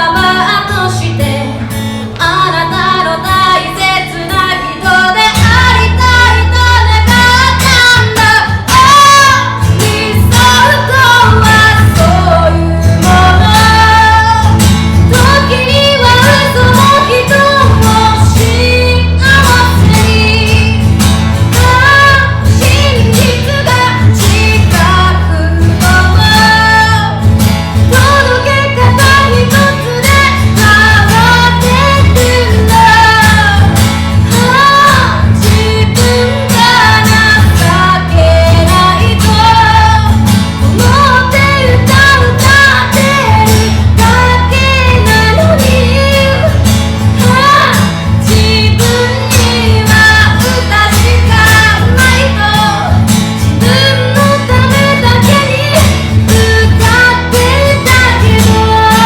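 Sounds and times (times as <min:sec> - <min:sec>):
acoustic guitar: 0:00.0 - 0:59.0
woman singing a slow song: 0:00.0 - 0:59.0.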